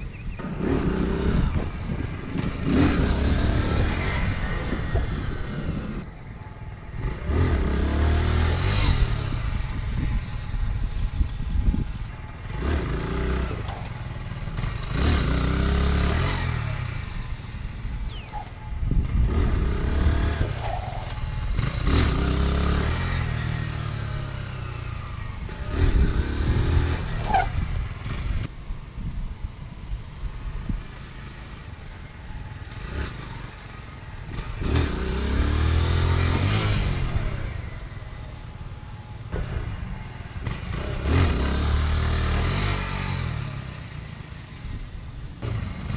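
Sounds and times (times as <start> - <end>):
motorcycle engine revving: 0.0 - 28.5, 30.1 - 45.9.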